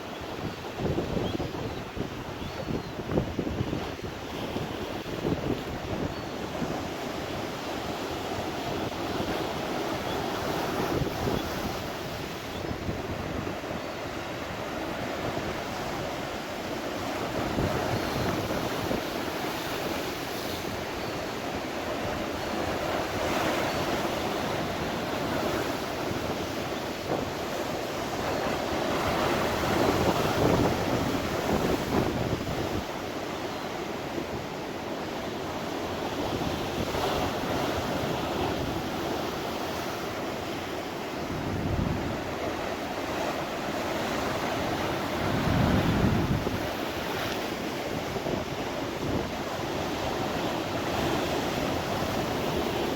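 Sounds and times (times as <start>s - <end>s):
wind buffeting microphone: 0.3s - 34.5s, 44.0s - 52.9s.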